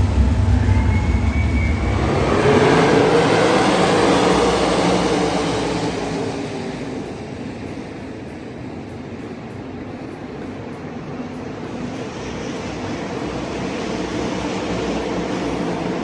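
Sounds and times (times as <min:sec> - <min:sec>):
engine and vehicle noise: 0:00.0 - 0:16.0.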